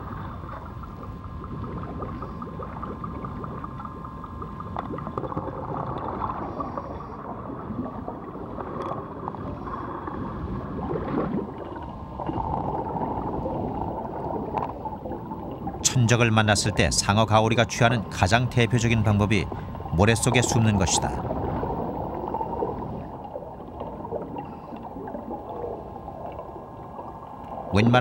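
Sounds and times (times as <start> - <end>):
underwater water rush: 0.0 - 15.9, 19.1 - 27.8.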